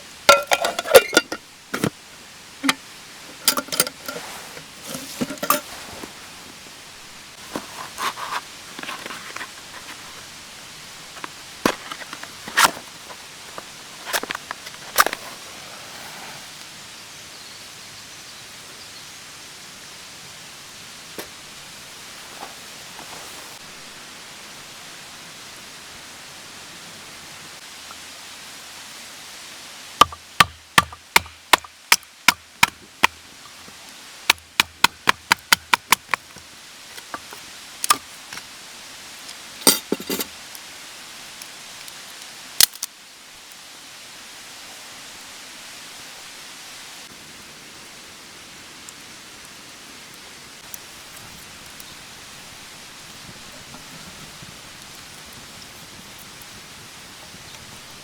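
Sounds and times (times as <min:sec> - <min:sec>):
low hiss: 0:00.0 - 0:58.0.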